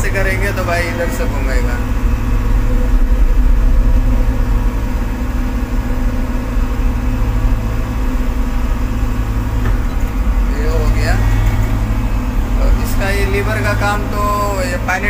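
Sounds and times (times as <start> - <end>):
excavator diesel engine running: 0.0 - 15.0
hydraulic swing: 0.0 - 15.0.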